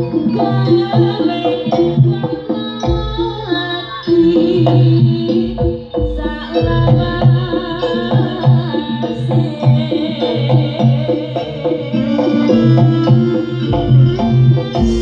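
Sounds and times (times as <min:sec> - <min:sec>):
drums playing fast rhythm: 0:00.0 - 0:15.0
ringing metallic percussion: 0:00.0 - 0:15.0.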